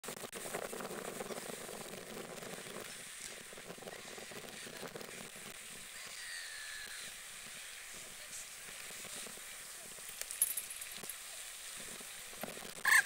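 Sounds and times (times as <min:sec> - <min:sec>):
faint outdoor hiss: 0:00.2 - 0:13.0.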